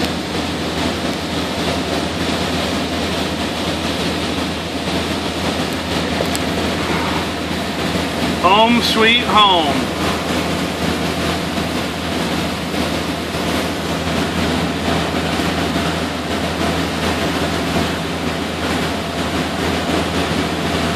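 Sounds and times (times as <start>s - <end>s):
boat engine droning: 0.0s - 20.9s
rush of wind and water: 0.0s - 20.9s.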